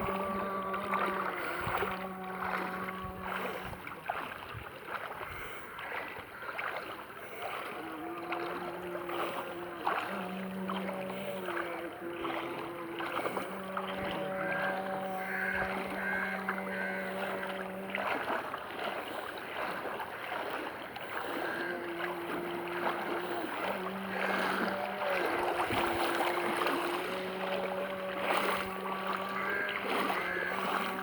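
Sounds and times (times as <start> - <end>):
water sloshing from wading: 0.0 - 31.0.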